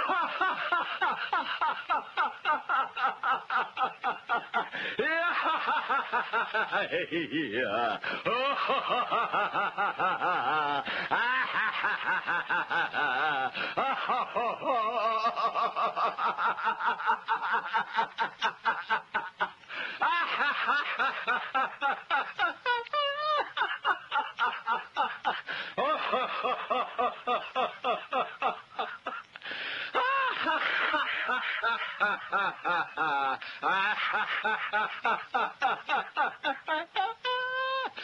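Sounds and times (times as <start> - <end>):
rhythmic laughter: 0.0 - 38.0.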